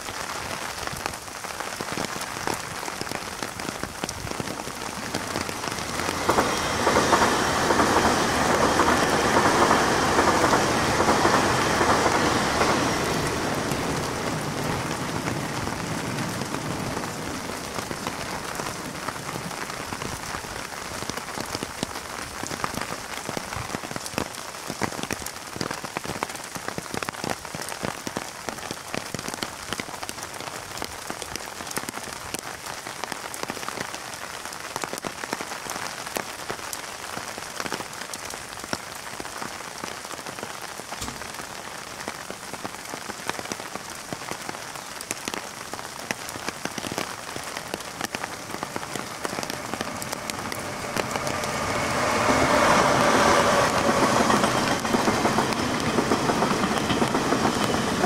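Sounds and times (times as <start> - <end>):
heavy rain on an umbrella: 0.0 - 58.0.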